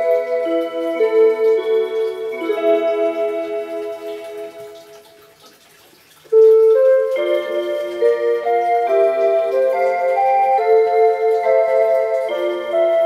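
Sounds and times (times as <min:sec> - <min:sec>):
electronic clock melody chime: 0:00.0 - 0:05.4, 0:06.4 - 0:13.0.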